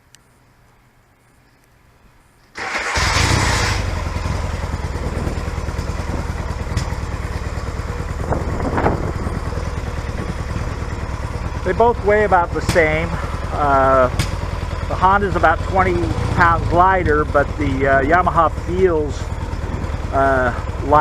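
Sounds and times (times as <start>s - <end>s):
motorcycle engine starting and idling: 2.5s - 21.0s.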